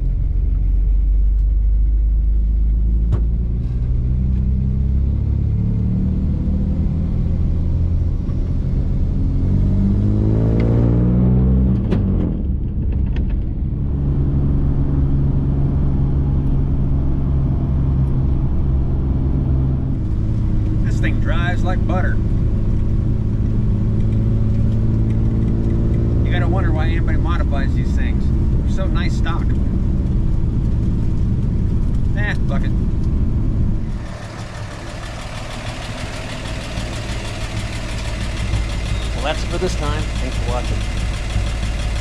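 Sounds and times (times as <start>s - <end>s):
car engine revving while driving: 2.7s - 12.5s, 13.7s - 42.0s.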